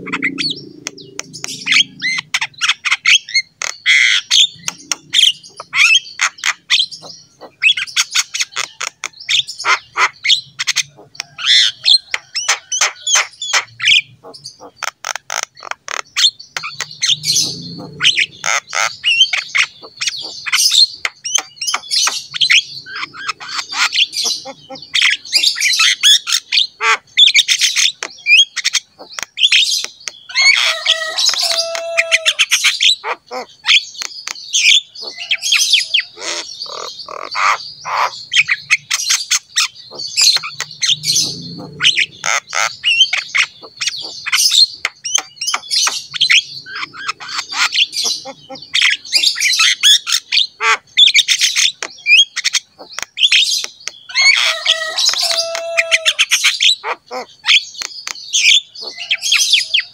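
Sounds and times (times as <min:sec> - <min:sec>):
myna chattering and whistling: 0:00.0 - 0:59.9.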